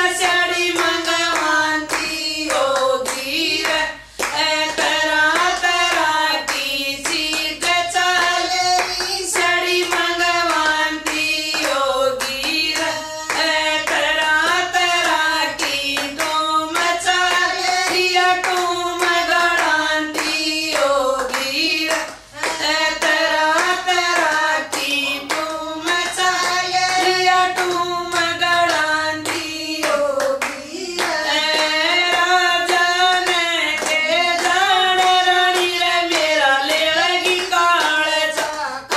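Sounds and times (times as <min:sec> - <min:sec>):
hand claps: 0:00.0 - 0:38.9
women singing together: 0:00.0 - 0:38.9.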